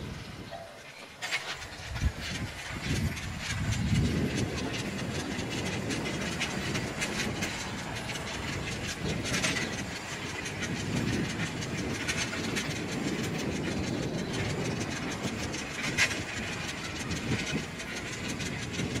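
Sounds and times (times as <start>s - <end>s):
bicycle tyres rumbling on paving: 0.0s - 19.0s
bicycle rattling and clicking: 0.8s - 19.0s.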